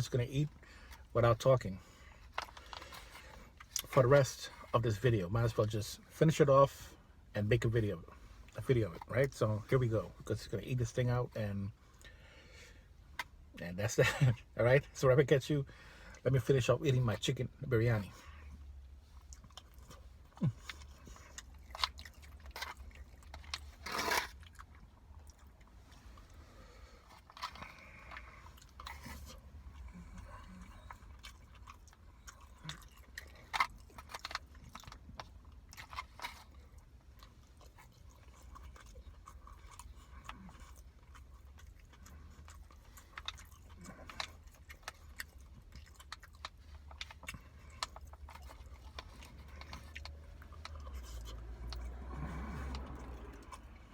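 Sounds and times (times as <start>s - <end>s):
close chewing and crunching: 0.0s - 53.9s.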